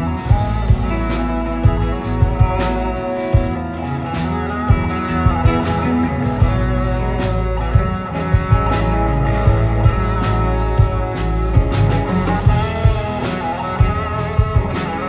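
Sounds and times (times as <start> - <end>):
bass guitar: 0.0 - 15.0
drum kit: 0.0 - 15.0
electric guitar solo: 0.0 - 15.0.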